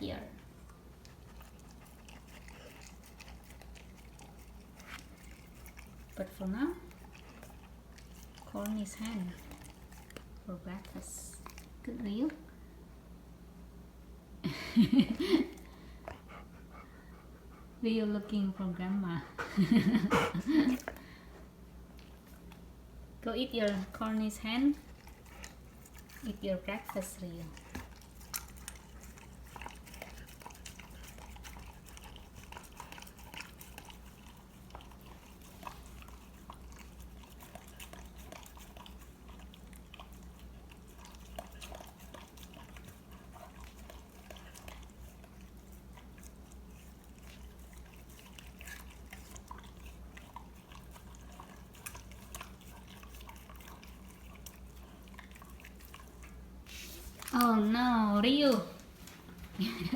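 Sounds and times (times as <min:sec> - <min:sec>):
low steady hum: 0:00.0 - 0:59.9
dog chewing and crunching: 0:00.1 - 0:11.8, 0:19.3 - 0:21.3, 0:23.6 - 0:59.9.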